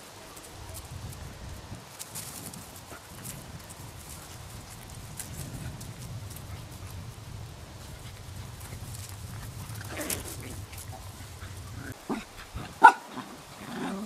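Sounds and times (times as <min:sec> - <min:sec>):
puppies scuffling on grass: 0:00.0 - 0:14.0
steady low rumble: 0:00.5 - 0:12.8.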